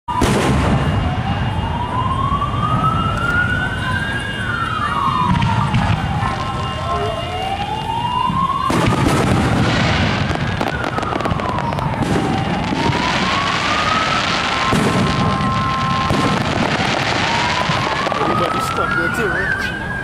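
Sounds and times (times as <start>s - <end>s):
fireworks crackling and bursting: 0.1s - 20.0s
siren wailing: 0.1s - 20.0s.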